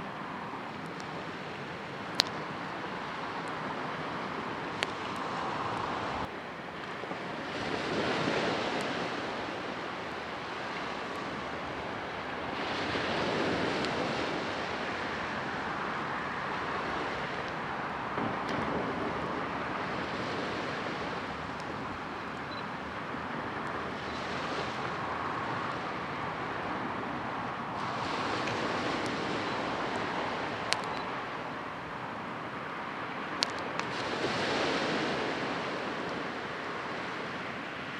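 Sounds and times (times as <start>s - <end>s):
ocean waves breaking on shore: 0.0s - 37.9s.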